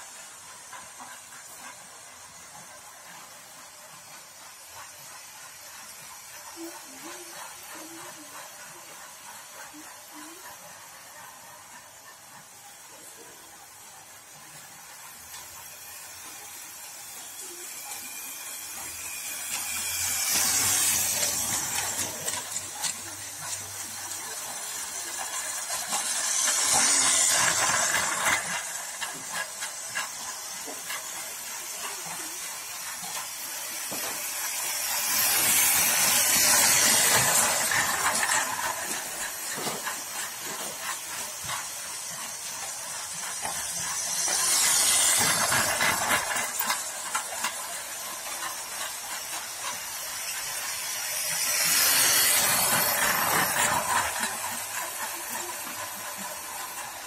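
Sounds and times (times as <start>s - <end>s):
toy trains running on track: 0.0s - 57.0s.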